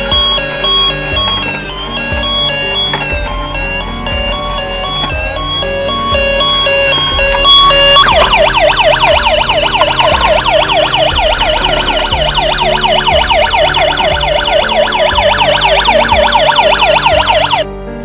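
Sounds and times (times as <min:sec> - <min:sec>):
toy siren wailing: 0:00.0 - 0:17.6
background music: 0:00.0 - 0:18.0.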